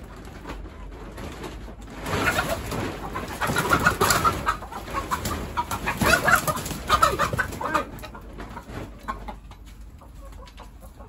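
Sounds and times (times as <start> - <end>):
plastic tarp rustling: 0.0 - 9.1
chickens clucking: 0.0 - 11.0.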